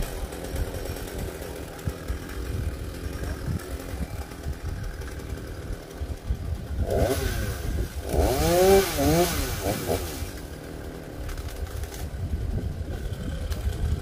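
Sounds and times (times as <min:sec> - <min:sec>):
chainsaw idling: 0:00.0 - 0:14.0.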